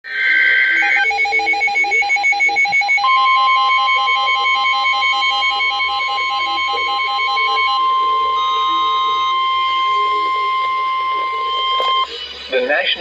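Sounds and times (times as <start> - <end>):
steady warning alarm tone: 0.1 - 12.5
rapid electronic beeping: 0.1 - 13.0
warbling data tones: 0.1 - 13.0.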